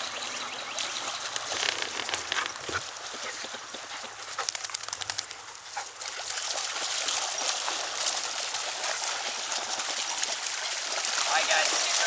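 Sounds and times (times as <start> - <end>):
dogs splashing through water: 0.0 - 12.0.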